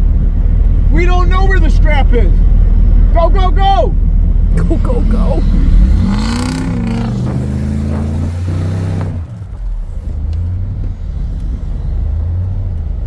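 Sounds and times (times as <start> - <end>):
vehicle engine revving: 2.4 - 13.0.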